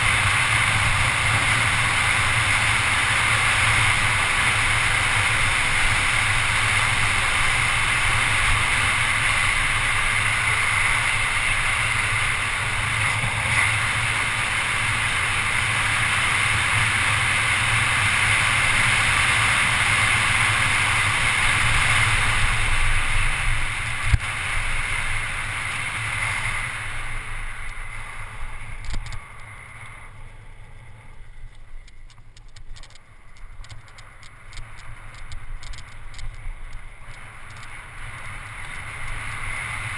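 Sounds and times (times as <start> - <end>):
faint rapid bike clicks: 0.0 - 39.9
wind rushing over camera: 0.0 - 39.9.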